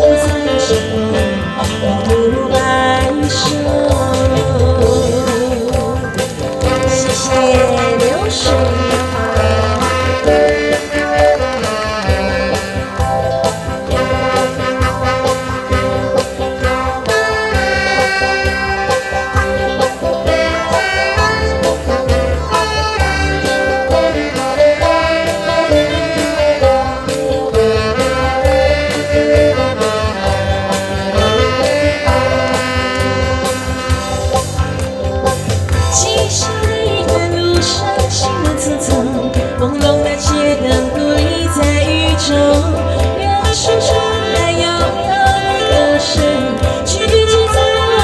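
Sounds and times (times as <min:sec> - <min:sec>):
band playing instrumental: 0:00.0 - 0:48.0.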